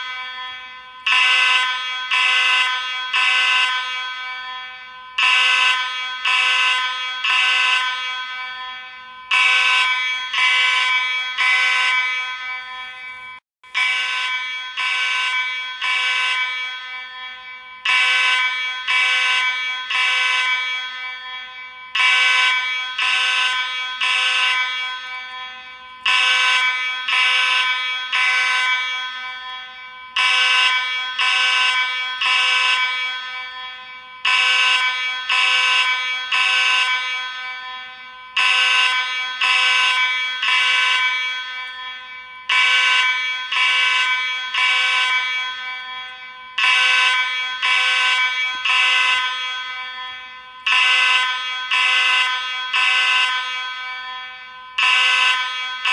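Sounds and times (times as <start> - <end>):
fire alarm horn blasts: 0.0 - 55.9.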